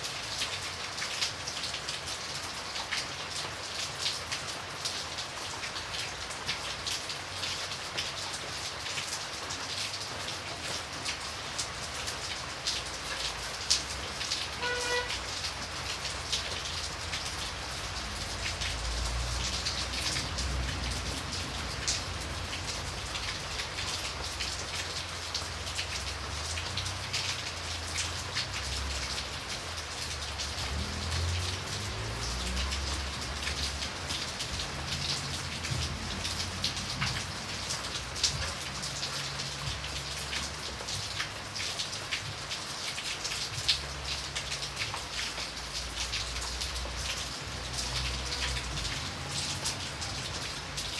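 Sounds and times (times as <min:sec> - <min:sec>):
rain ticking on a window: 0:00.0 - 0:50.9.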